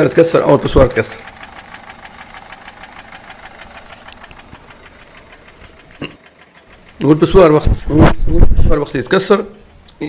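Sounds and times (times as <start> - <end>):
diesel engine idling with ticking knock: 0.0 - 10.0.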